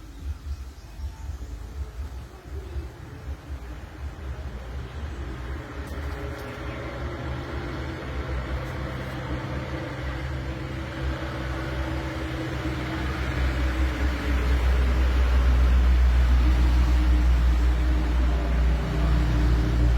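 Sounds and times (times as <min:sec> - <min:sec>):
low mechanical hum with rumble: 0:00.0 - 0:19.9.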